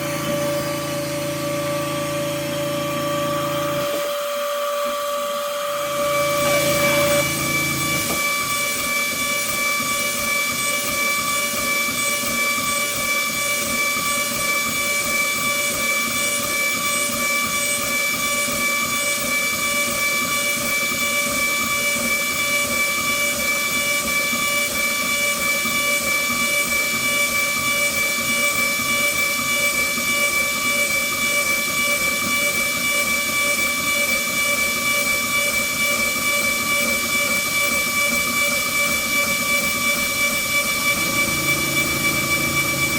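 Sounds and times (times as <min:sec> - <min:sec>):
router spindle whining: 0:00.0 - 0:42.9.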